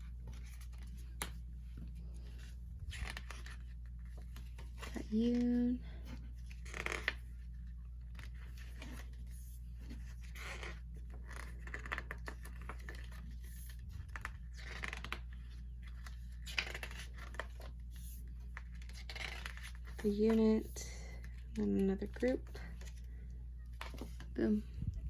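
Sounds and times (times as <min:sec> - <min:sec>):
paper and card rustling: 0:00.0 - 0:25.0.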